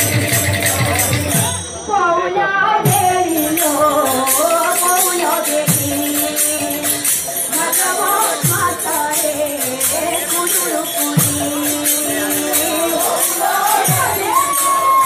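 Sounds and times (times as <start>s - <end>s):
jingling percussion: 0.0s - 15.0s
women singing together: 1.9s - 15.0s.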